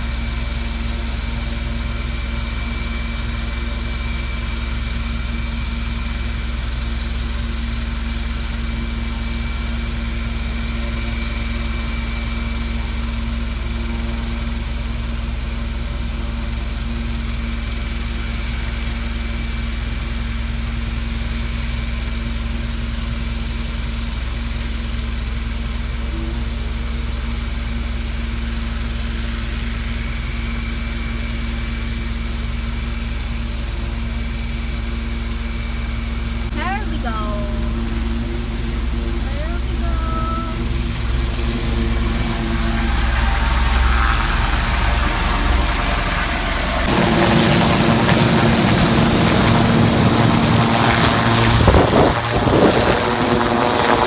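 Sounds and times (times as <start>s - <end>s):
helicopter idling: 0.0s - 54.0s.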